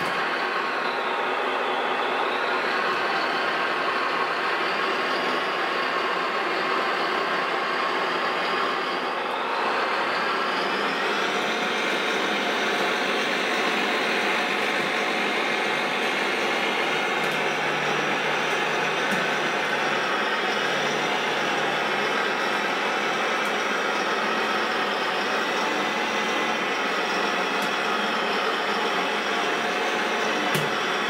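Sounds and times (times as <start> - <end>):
model bulldozer running on tracks: 0.0 - 31.0.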